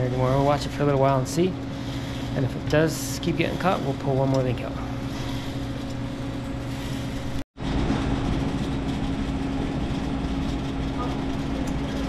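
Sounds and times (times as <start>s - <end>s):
toaster fan and conveyor hum: 0.0s - 12.0s.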